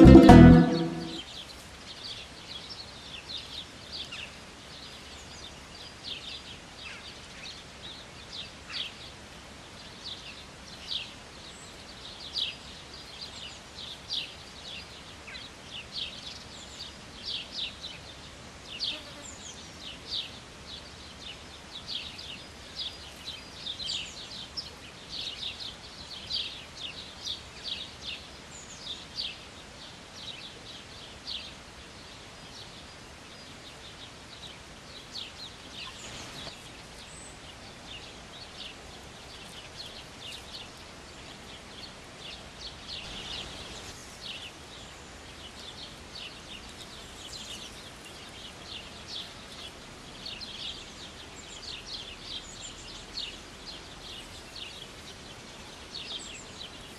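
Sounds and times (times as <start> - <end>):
faint background hiss: 0.0 - 56.9
small birds chirping: 0.8 - 56.9.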